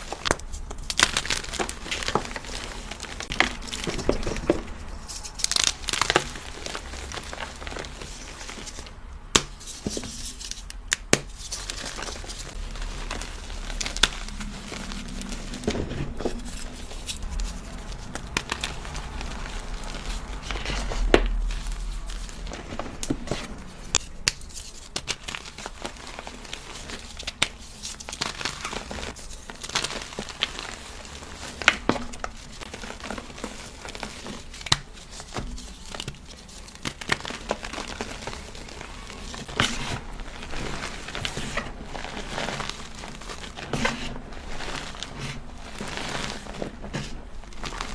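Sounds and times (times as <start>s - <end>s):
chalk cubes crunching: 0.0s - 47.9s.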